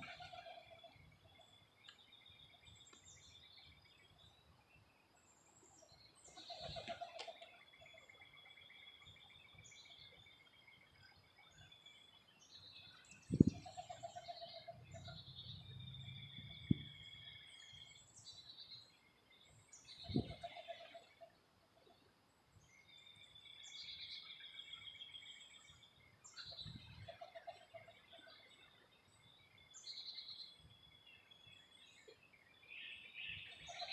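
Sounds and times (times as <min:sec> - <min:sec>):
birds calling and chirping: 0:00.0 - 0:33.9.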